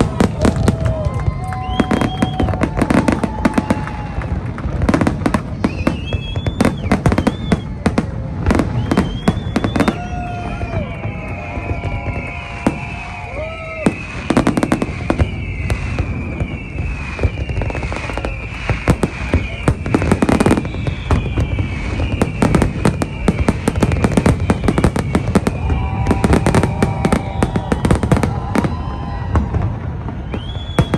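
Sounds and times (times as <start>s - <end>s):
fireworks bangs and crackling: 0.0s - 30.9s
high falling whistle: 0.9s - 3.8s, 5.6s - 7.9s, 8.5s - 30.9s.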